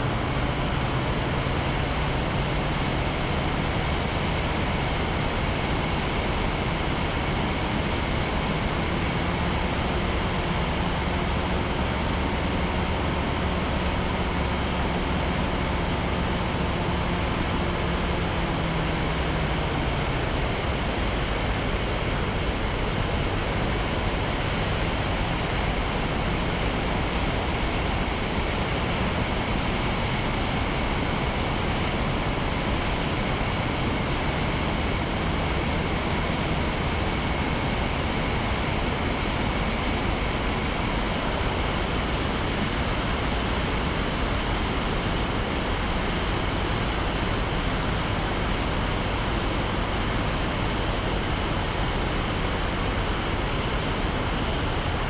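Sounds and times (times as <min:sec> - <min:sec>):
two-stroke aircraft engine: 0:00.0 - 0:55.0.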